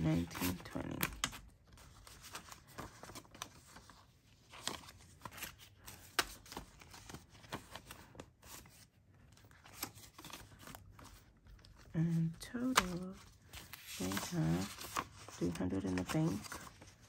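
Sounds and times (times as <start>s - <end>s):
binder pages and plastic pouches turning: 0.0s - 17.0s
paper bills rustling and flicking: 0.0s - 17.0s.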